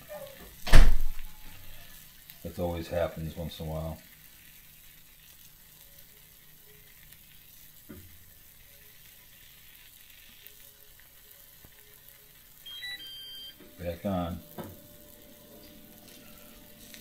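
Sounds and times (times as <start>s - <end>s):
food sizzling on griddle: 0.0s - 17.0s.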